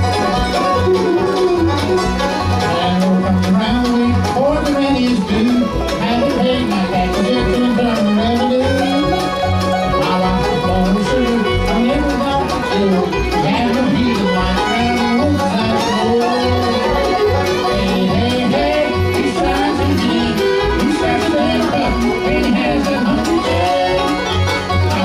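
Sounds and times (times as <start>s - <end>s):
bluegrass band playing: 0.0s - 25.0s.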